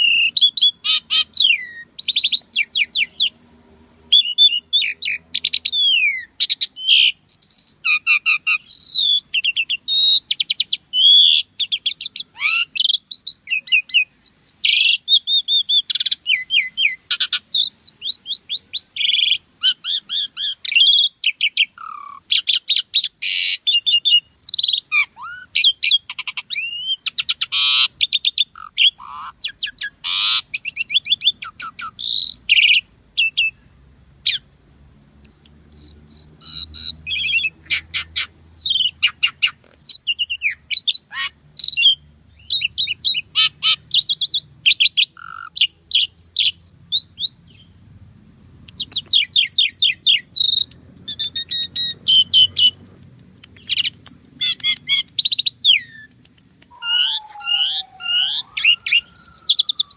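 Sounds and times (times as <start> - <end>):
starling singing: 0.0 - 33.6, 35.3 - 47.8, 48.7 - 59.9.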